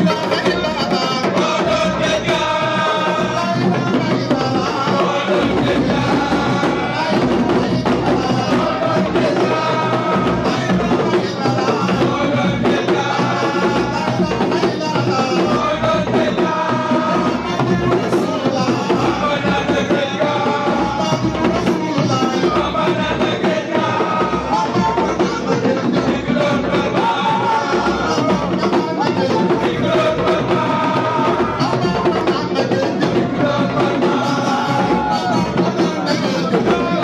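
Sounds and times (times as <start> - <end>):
drums with driving beat: 0.0 - 37.0
person singing: 0.0 - 37.0.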